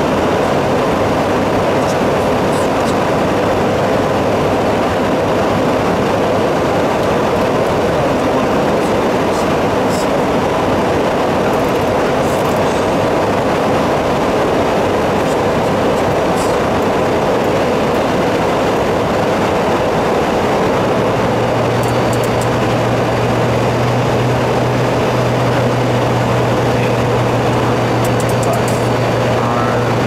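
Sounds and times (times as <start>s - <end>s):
airflow and engine rush: 0.0s - 30.0s
low steady hum: 0.0s - 30.0s.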